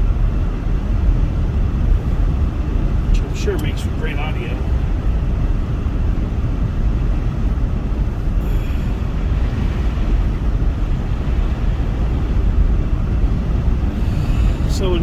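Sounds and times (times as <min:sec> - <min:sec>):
wind and road noise in car: 0:00.0 - 0:15.0.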